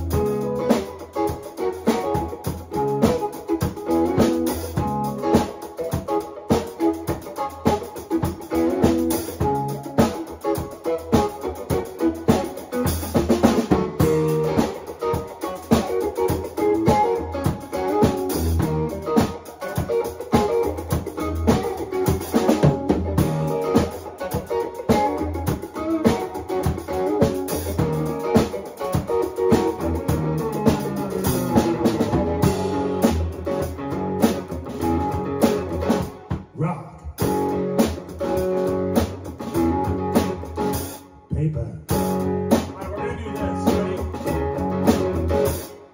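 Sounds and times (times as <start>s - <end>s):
live band playing: 0.0s - 36.5s, 37.2s - 41.1s, 41.9s - 45.9s.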